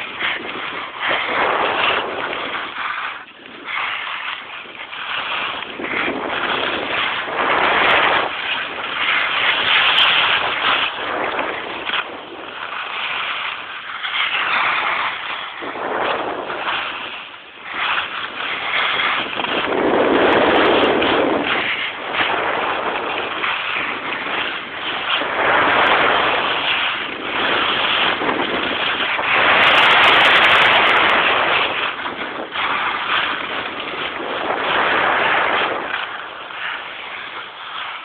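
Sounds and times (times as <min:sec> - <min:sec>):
ski edges scraping snow: 0:00.0 - 0:38.0
wind over microphone: 0:00.0 - 0:38.0.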